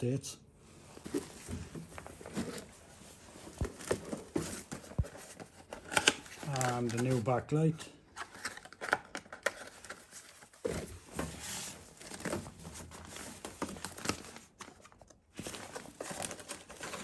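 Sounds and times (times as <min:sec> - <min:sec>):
packaging rustling and crinkling: 0:01.0 - 0:17.0.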